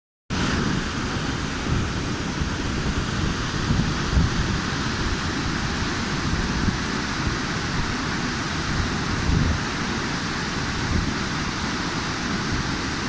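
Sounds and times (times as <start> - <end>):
waterfall roaring: 0.3 - 13.0
wind buffeting microphone: 0.4 - 13.0.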